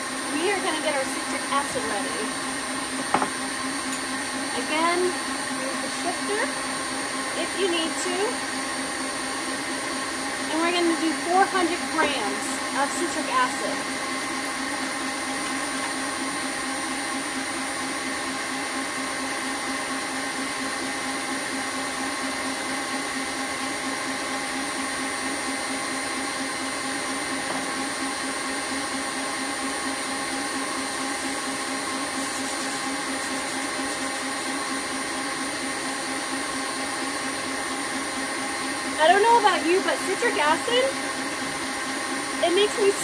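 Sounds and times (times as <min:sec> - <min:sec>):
electric stand mixer whining: 0:00.0 - 0:43.0.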